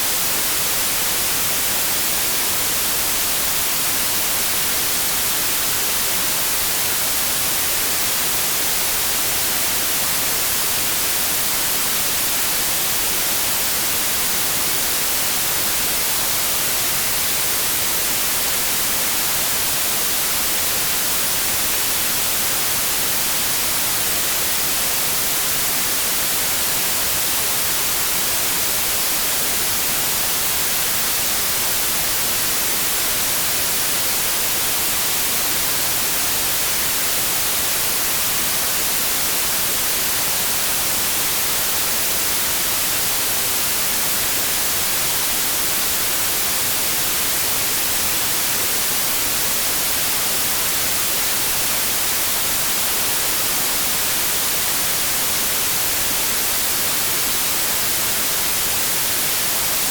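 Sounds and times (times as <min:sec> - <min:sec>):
static white noise: 0:00.0 - 0:59.9.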